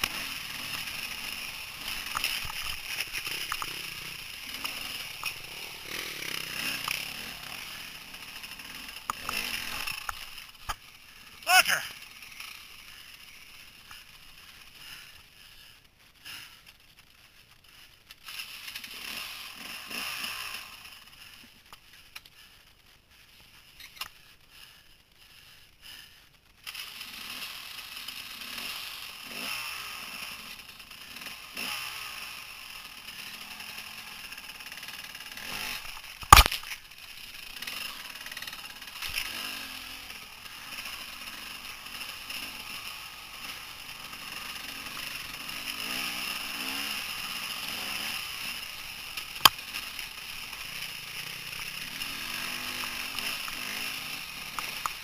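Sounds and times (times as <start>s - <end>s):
dirt bike engine revving: 0.0s - 15.2s, 18.4s - 21.2s, 26.6s - 55.0s.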